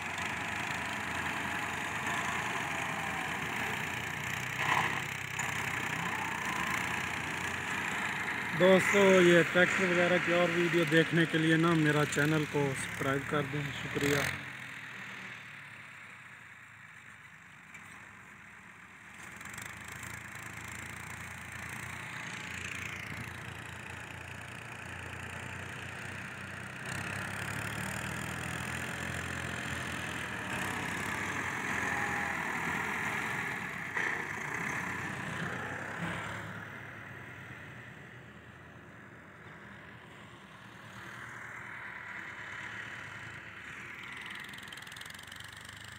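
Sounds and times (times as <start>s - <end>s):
diesel tractor engines under load: 0.0s - 45.9s.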